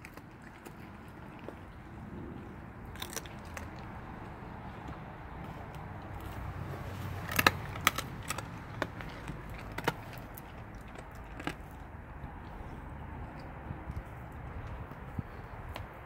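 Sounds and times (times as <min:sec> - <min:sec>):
dog crunching bones: 0:00.0 - 0:16.0.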